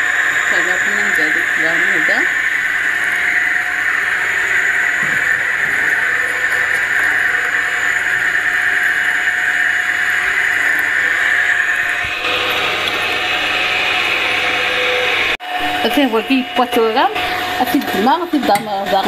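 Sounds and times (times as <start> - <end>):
electric juicer motor whining: 0.0 - 19.0.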